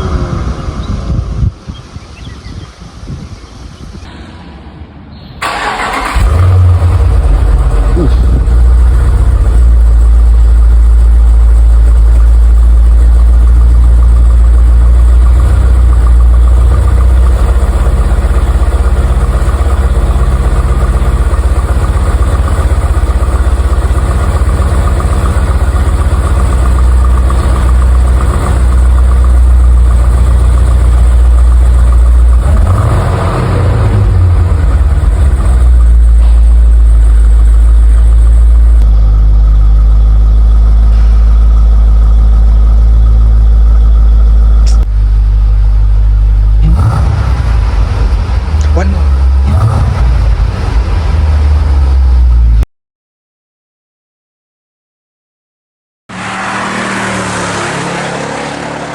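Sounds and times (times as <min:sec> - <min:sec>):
car engine starting and idling: 0:04.0 - 0:52.6.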